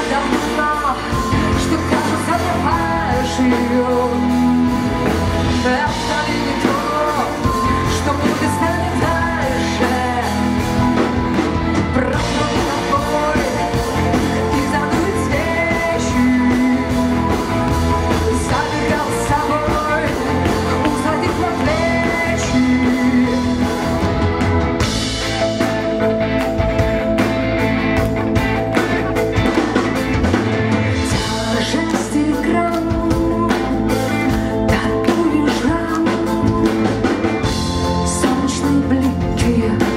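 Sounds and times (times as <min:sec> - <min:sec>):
woman singing: 0:00.0 - 0:24.6, 0:31.0 - 0:39.9
live rock band playing: 0:00.0 - 0:39.9.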